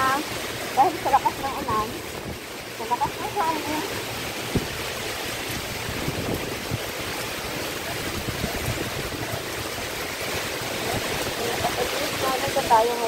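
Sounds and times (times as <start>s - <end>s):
heavy rain pouring: 0.0s - 13.0s
strong wind gusts on microphone: 1.1s - 13.0s.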